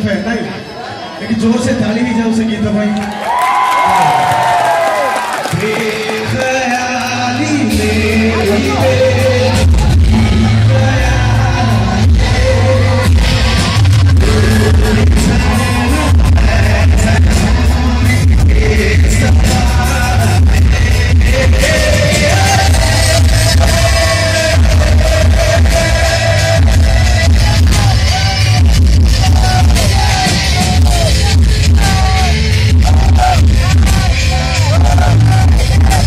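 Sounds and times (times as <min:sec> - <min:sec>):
man singing into a microphone: 0:05.4 - 0:36.0
live band music over speakers: 0:05.5 - 0:36.0.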